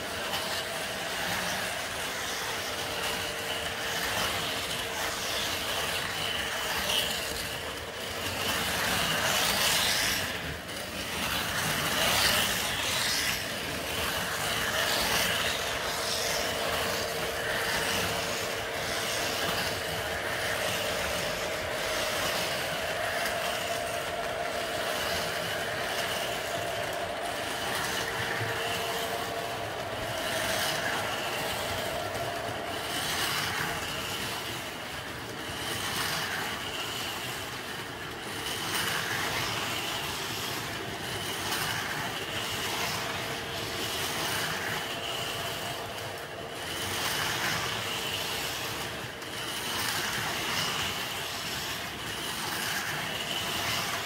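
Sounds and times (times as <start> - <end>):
model train rolling on track: 0.0 - 54.0
slot car motors whirring: 0.0 - 54.0.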